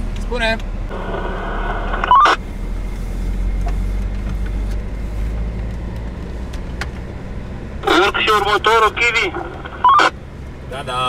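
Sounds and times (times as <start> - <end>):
off-road vehicle engine rumble: 0.0 - 11.0.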